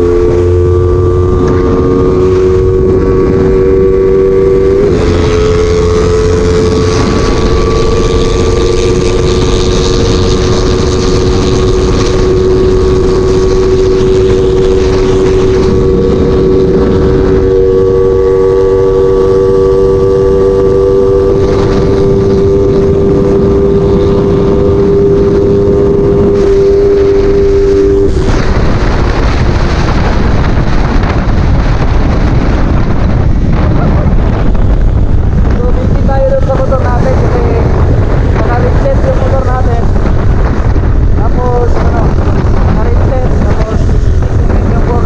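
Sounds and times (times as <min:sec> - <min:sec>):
motorcycle engine running hard: 0:00.0 - 0:45.0
wind rushing over microphone: 0:00.0 - 0:45.0.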